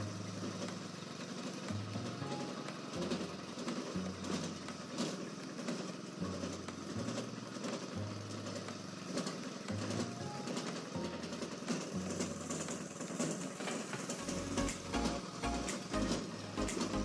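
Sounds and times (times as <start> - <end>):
low machine hum: 0.0 - 17.0
machine chopping fodder: 0.0 - 17.0.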